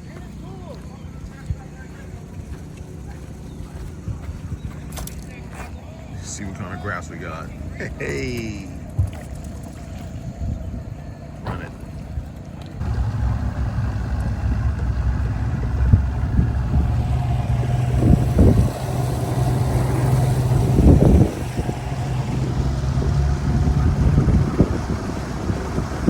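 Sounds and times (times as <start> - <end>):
outboard motor running: 0.0 - 26.0
wind buffeting microphone: 0.0 - 26.0.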